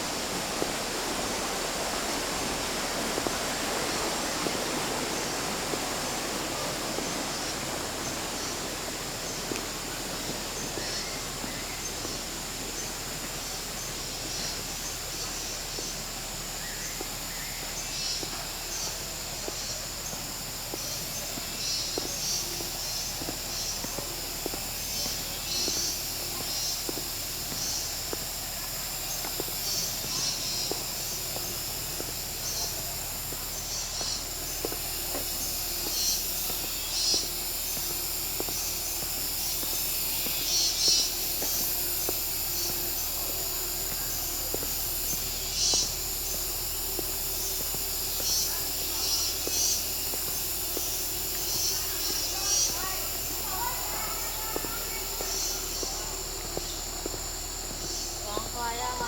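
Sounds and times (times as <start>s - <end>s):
shallow water running: 0.0s - 59.0s.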